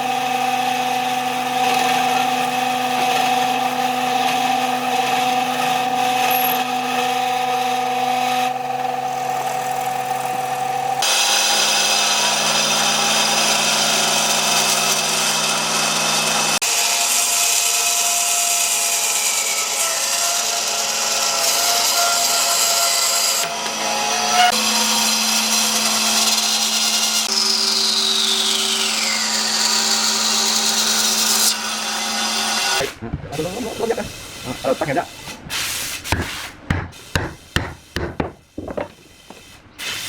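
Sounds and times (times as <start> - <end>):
electric power tool working wood: 0.0 - 35.4.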